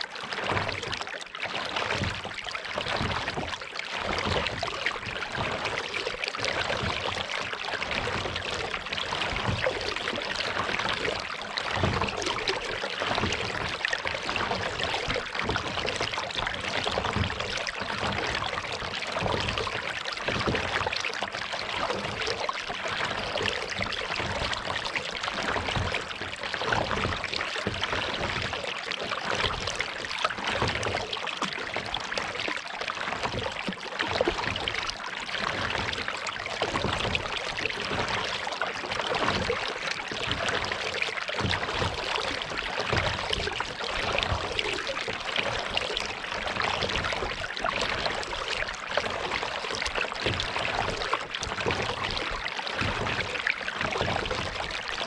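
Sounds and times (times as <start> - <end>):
paddle splashing water: 0.0 - 55.0
water lapping at hull: 0.0 - 55.0.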